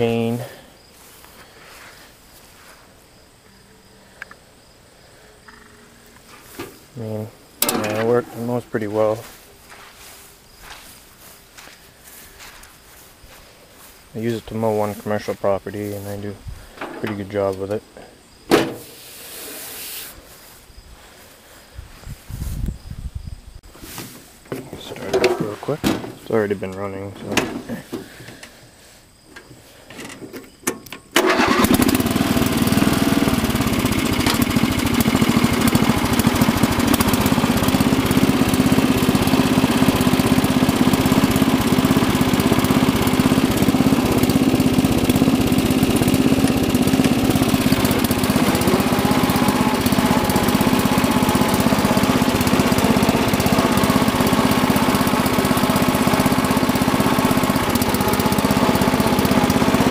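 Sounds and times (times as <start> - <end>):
lawn tractor engine running: 0.0 - 3.0, 5.4 - 17.8, 23.8 - 28.6, 29.4 - 59.9.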